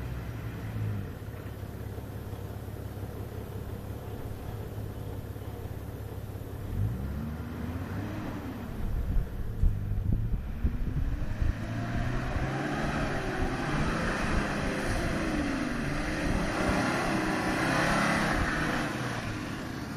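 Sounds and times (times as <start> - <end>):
engine climbing dirt track: 0.0 - 19.9.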